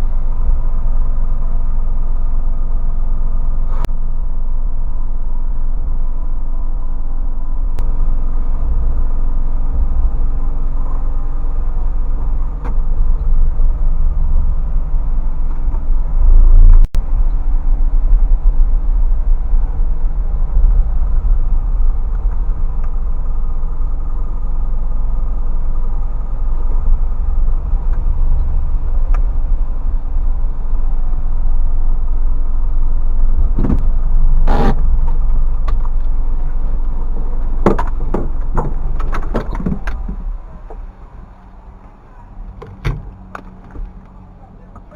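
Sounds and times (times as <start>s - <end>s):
low road rumble: 0.0s - 44.9s
truck engine running: 0.0s - 44.9s.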